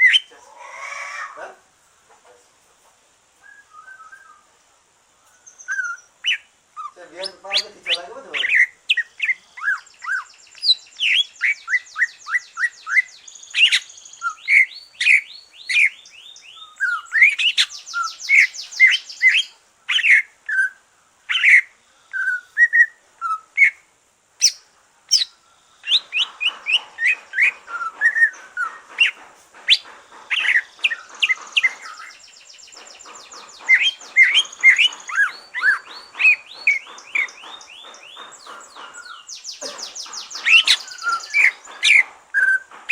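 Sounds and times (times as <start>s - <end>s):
faint hiss: 0.0s - 42.9s
songbird singing varied song: 3.4s - 4.5s, 5.1s - 42.9s.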